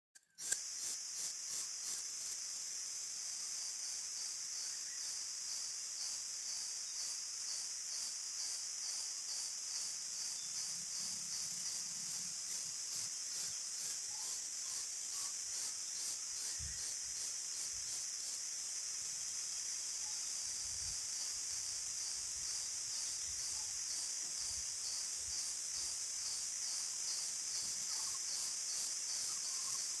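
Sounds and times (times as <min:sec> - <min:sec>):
high-pitched insect chorus: 0:00.3 - 0:30.0.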